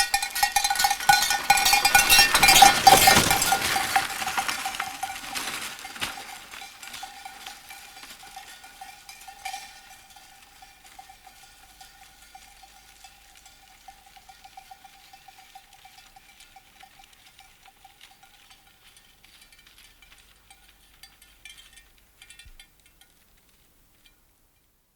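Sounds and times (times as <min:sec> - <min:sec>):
sleigh bells jingling: 0:00.0 - 0:22.5.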